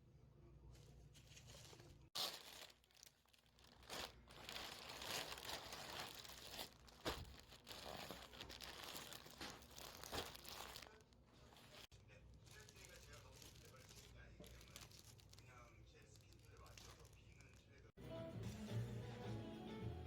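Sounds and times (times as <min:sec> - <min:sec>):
packaging crinkling and tearing: 0:01.3 - 0:17.9.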